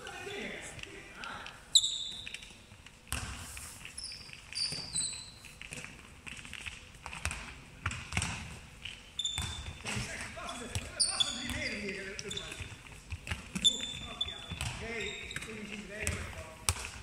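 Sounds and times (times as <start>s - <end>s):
balls bouncing on wooden floor: 0.7s - 17.0s
sneakers squeaking on floor: 1.7s - 17.0s.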